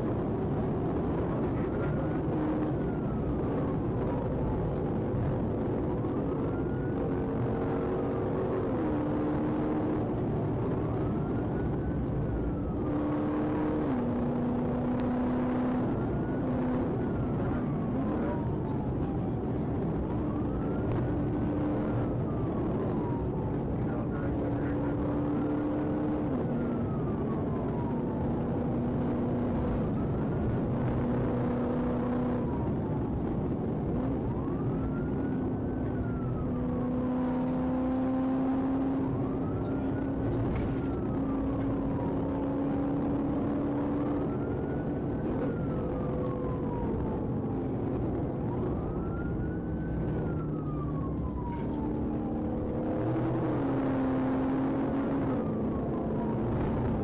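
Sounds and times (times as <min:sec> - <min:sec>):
police siren wailing: 0:00.0 - 0:57.0
rushing vehicle noise: 0:00.0 - 0:57.0.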